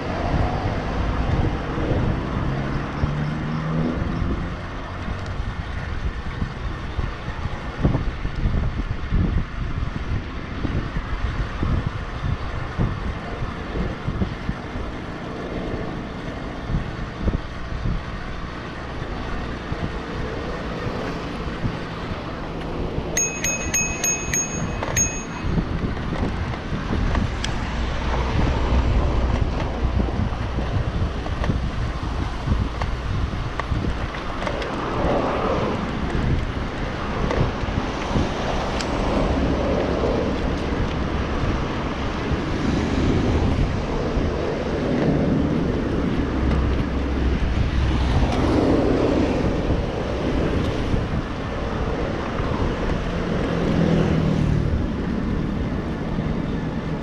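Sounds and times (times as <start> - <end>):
tyres on the road: 0.0 - 57.0
wind on the microphone: 0.0 - 57.0.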